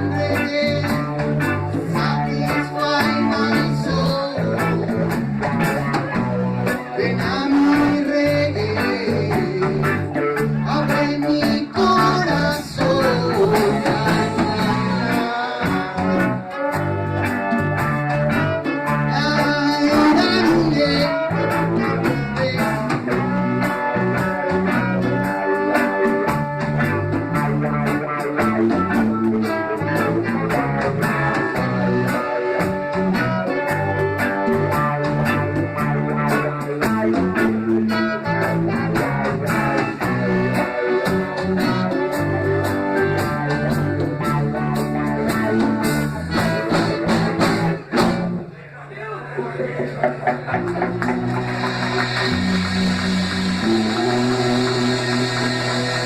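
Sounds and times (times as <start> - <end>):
steady drum beat: 0.0 - 48.4
bass guitar: 0.0 - 48.7, 49.3 - 56.0
reggae electric guitar: 0.0 - 56.0.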